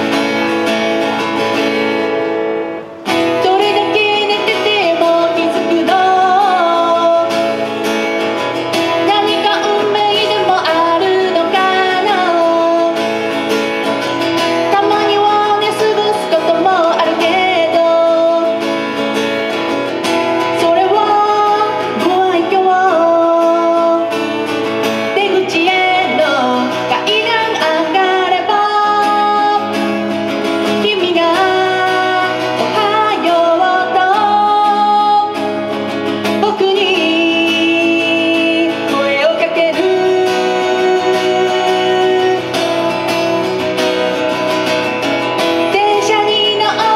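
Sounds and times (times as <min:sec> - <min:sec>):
acoustic guitar: 0:00.0 - 0:46.9
woman singing into a microphone: 0:00.0 - 0:46.9.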